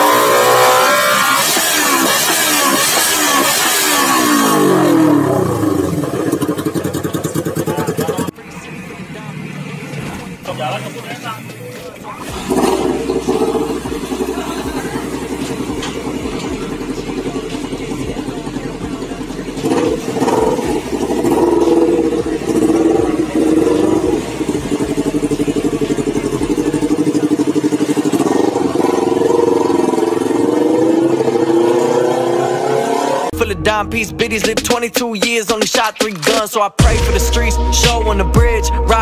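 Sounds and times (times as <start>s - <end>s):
motorcycle engine revving: 0.0s - 34.8s.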